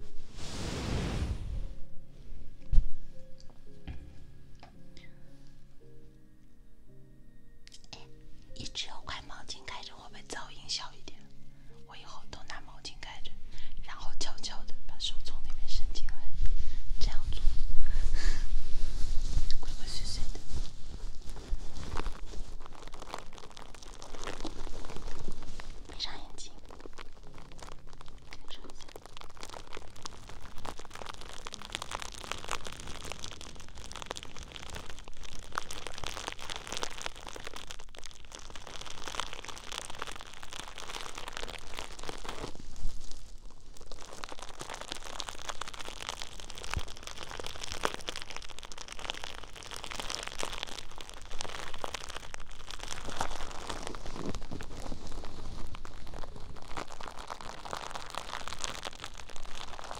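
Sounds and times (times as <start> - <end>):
crinkling and crunching at microphone: 0.0 - 2.0, 7.6 - 13.7, 15.5 - 59.9.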